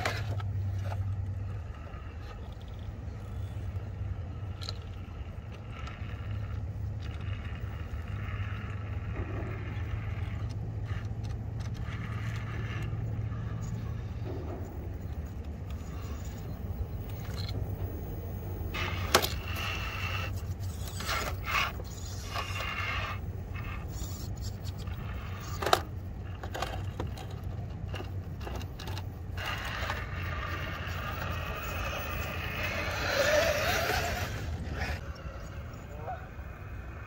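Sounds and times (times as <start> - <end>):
electric drivetrain whining: 0.0 - 37.0
tyres scraping on stone: 4.5 - 35.5.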